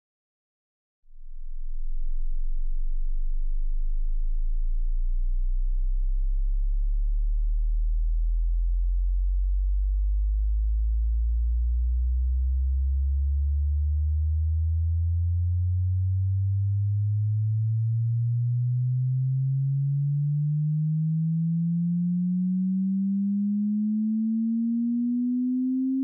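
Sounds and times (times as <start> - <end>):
rising sine tone: 1.1 - 26.0.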